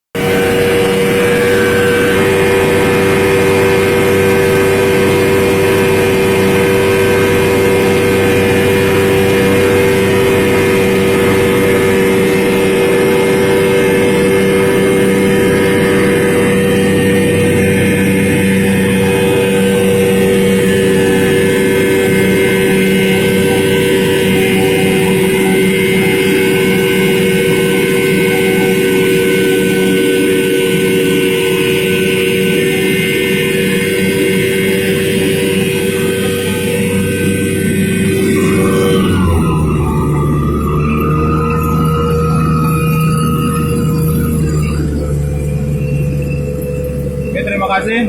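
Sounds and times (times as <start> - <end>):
scooter engine droning: 0.1 - 48.0.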